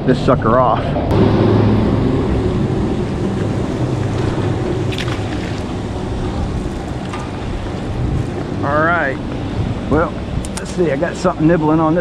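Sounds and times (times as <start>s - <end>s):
wind buffeting microphone: 0.0s - 12.0s
low rumble: 0.4s - 10.4s.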